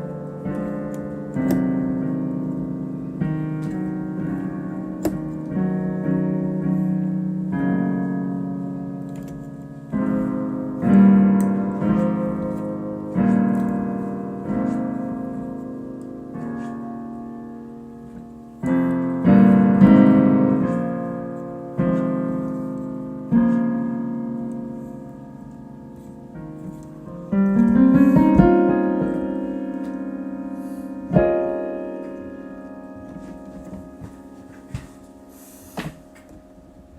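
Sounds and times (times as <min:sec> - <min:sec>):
piano playing slow chords: 0:00.0 - 0:36.9.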